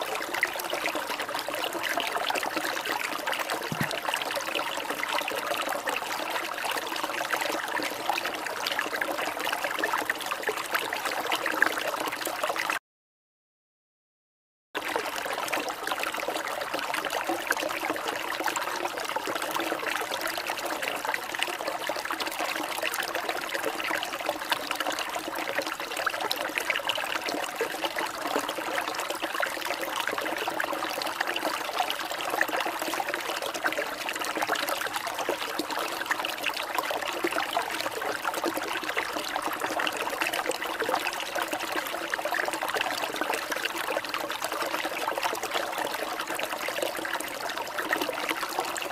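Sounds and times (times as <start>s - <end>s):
water trickling and flowing: 0.0s - 12.8s, 14.8s - 48.9s.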